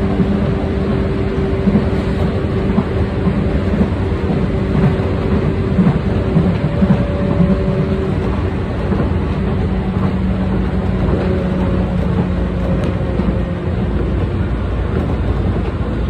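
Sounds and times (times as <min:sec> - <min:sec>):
idling train rumble: 0:00.0 - 0:16.0.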